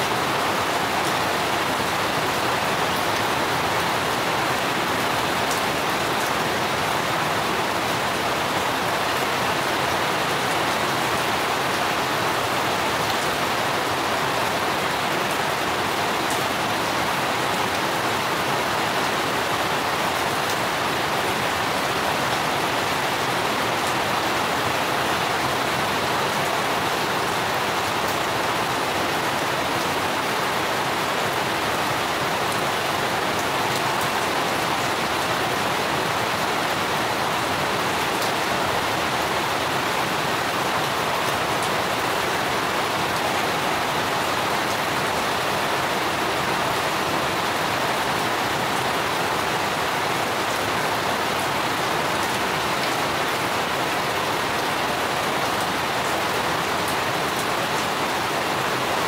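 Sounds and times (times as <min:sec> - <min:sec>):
steady rain on foliage: 0:00.0 - 0:59.0.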